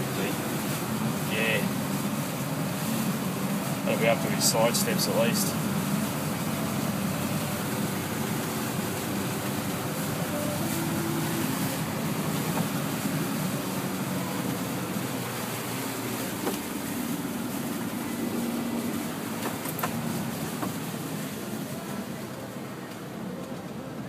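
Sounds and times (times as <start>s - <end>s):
truck engine running: 0.0s - 24.0s
water spraying against vehicle: 0.0s - 24.0s.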